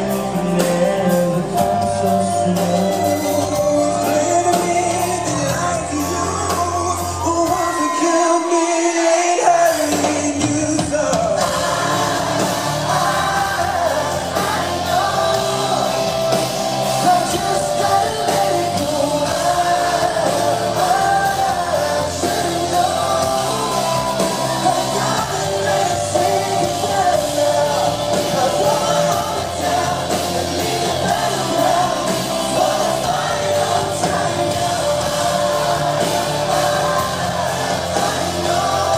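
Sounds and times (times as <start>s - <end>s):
live pop band: 0.0s - 38.9s
man singing: 0.0s - 38.9s.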